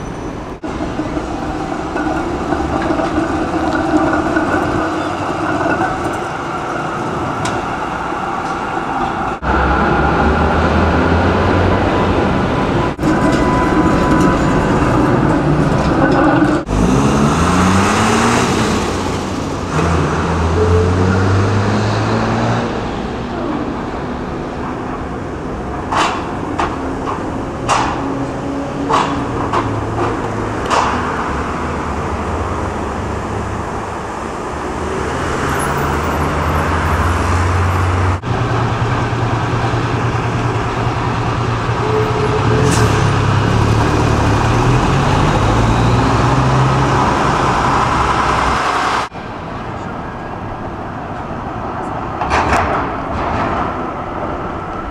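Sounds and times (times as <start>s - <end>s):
vehicle engines pulling away: 0.0s - 25.6s, 26.4s - 49.4s
tram wheels clacking over rail joints: 0.0s - 54.9s.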